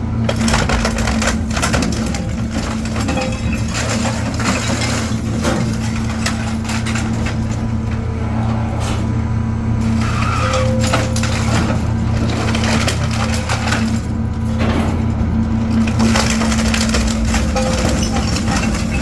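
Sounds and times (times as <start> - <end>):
hydraulic unit humming: 0.0 - 19.0
scrap metal crunching and creaking: 0.0 - 19.0.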